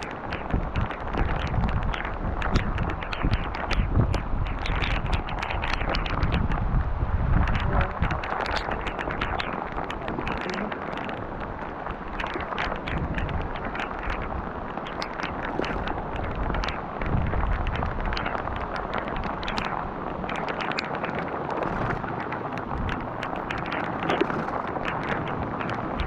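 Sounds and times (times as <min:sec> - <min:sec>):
rain drops striking close: 0:00.0 - 0:26.0
wind buffeting microphone: 0:00.0 - 0:26.0.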